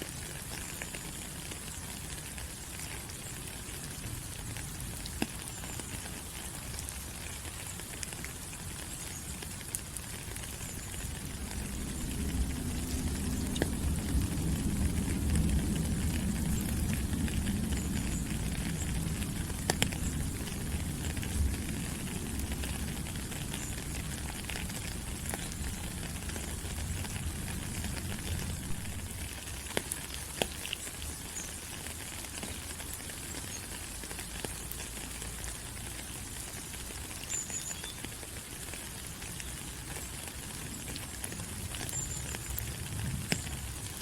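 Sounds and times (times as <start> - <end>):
rain falling on leaves: 0.0 - 44.0.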